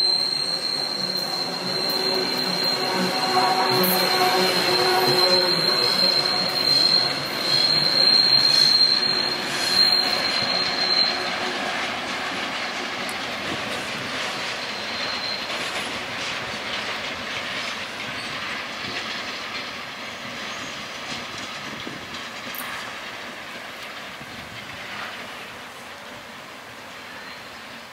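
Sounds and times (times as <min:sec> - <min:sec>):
train wheels squealing: 0:00.0 - 0:27.9.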